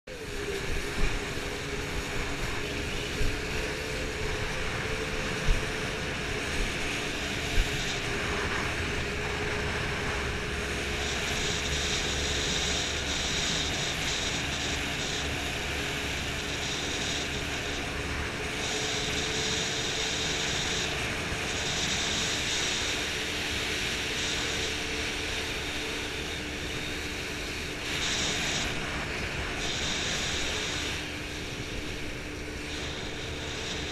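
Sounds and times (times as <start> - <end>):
wind: 0.0 - 33.9
boat engine running: 0.1 - 33.9.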